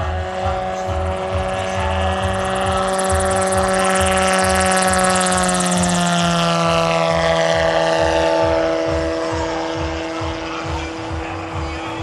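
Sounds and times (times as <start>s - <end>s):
electric motor and propeller humming: 0.0s - 12.0s
low rhythmic pulsing: 0.0s - 12.0s.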